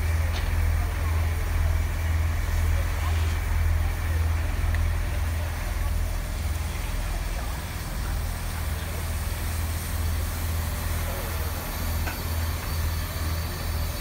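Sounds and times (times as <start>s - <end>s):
steam locomotive low rumble: 0.0s - 14.0s
general hiss: 0.1s - 14.0s.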